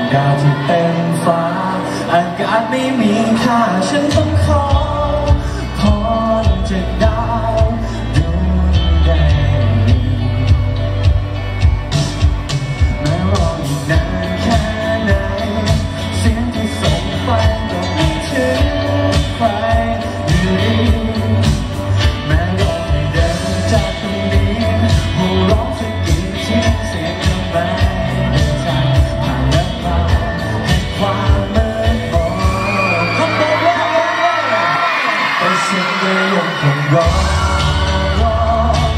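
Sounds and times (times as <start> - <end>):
man singing into microphone: 0.0 - 11.2, 12.8 - 38.9
amplified music with beat: 0.0 - 34.5.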